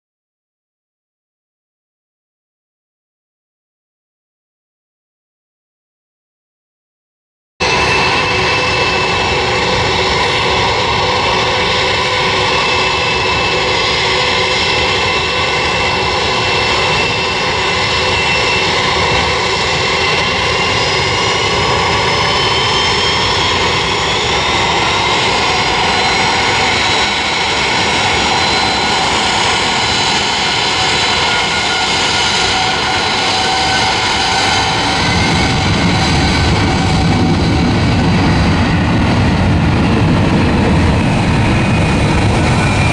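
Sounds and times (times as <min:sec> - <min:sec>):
deep engine rumble: 0:07.6 - 0:42.9
jet engine whine: 0:07.6 - 0:42.9.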